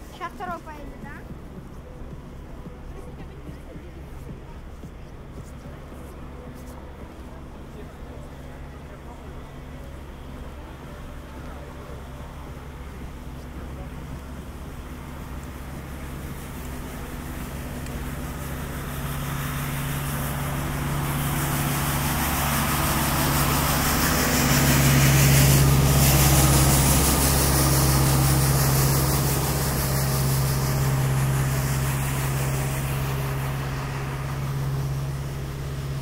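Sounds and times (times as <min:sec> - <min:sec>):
truck engine running with hiss: 0:00.0 - 0:36.0.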